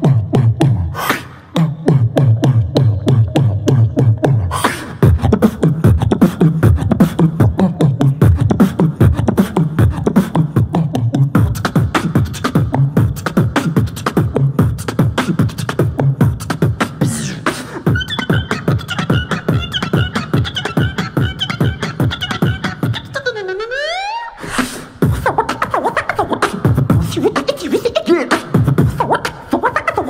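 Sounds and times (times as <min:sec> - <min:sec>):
beatboxing into microphone: 0:00.0 - 0:30.0.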